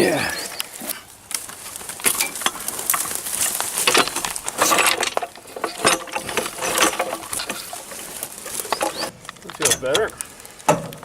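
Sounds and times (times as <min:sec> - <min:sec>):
clattering knocks and scraping: 0:01.4 - 0:11.0.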